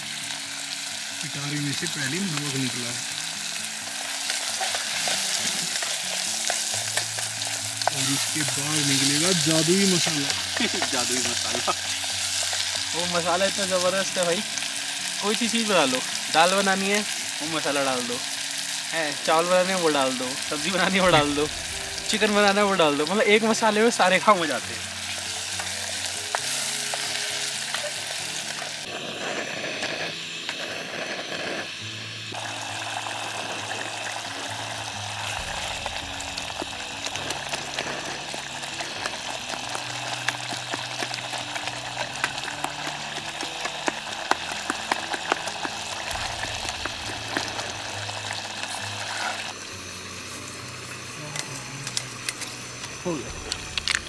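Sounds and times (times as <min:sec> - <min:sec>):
masala sizzling and crackling: 0:00.0 - 0:54.0
soft background music: 0:00.0 - 0:54.0.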